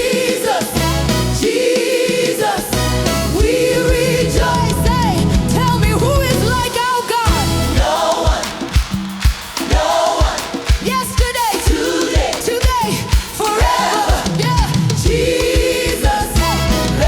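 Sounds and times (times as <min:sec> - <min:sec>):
choir singing: 0:00.0 - 0:17.0
steady drum beat: 0:00.0 - 0:17.0
upbeat gospel song: 0:00.0 - 0:17.0.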